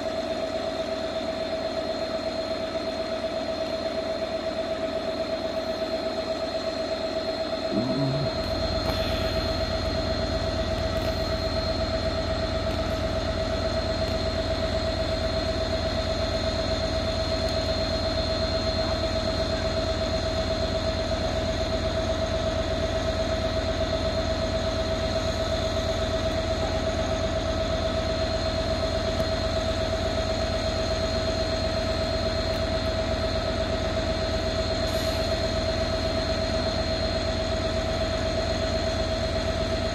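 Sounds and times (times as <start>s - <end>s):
diesel locomotive idling: 0.0s - 39.9s.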